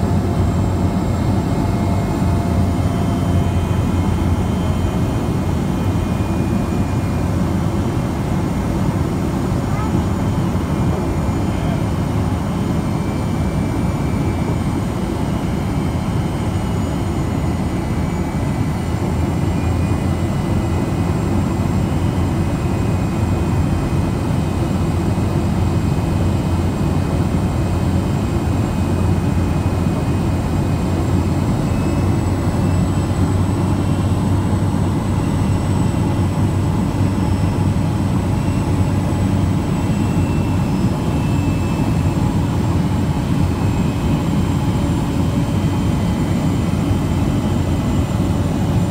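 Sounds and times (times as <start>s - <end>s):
plane engine and propeller drone: 0.0s - 48.9s.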